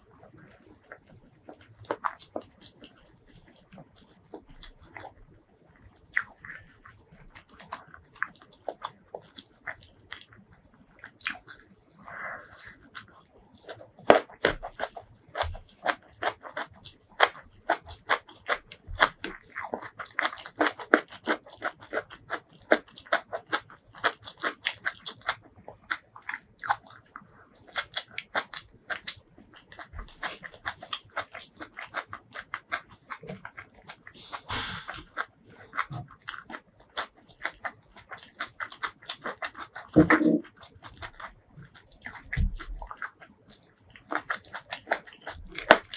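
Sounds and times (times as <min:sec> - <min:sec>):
person chewing with wet mouth clicks: 0:00.0 - 0:05.2, 0:06.0 - 0:45.9.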